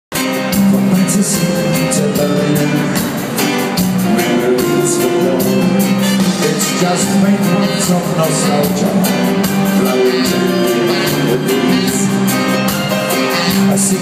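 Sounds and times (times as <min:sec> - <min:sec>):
live ska-pop band playing: 0:00.1 - 0:14.0.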